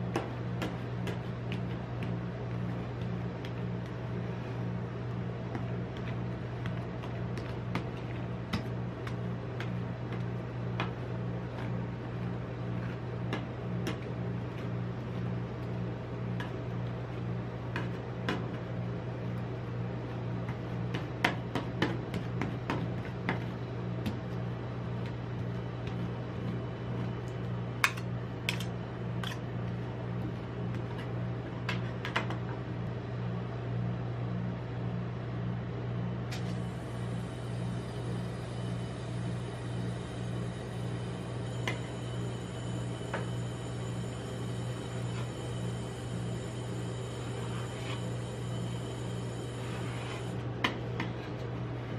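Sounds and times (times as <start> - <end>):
refrigeration unit hum: 0.0 - 51.9.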